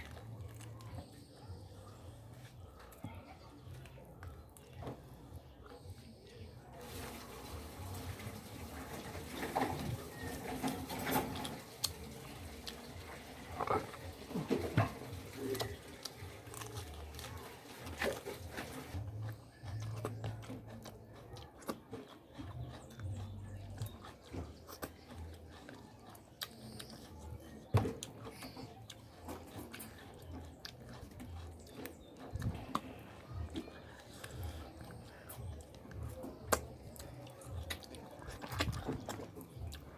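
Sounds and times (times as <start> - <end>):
wet chewing and mouth smacking: 0.0 - 39.9.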